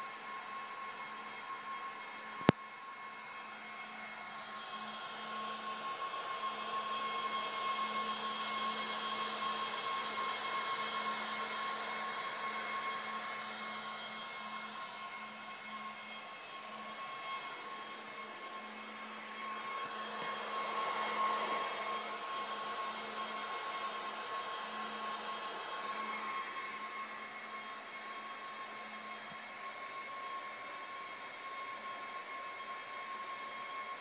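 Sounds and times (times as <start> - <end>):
cooling fans whining: 0.0 - 34.0.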